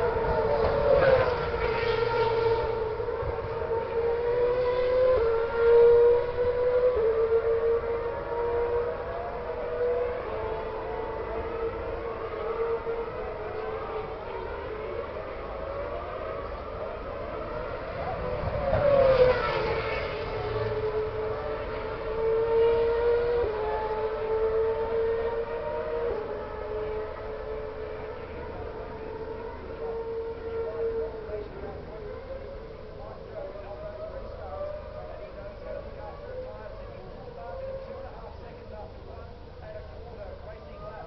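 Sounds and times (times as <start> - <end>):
racing car engine at high revs: 0.0 - 41.0
racing car passing by: 0.0 - 41.0.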